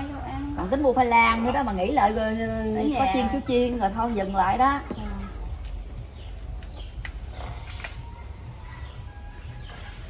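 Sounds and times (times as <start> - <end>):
insects droning: 0.0 - 10.0
low outdoor rumble: 0.0 - 10.0.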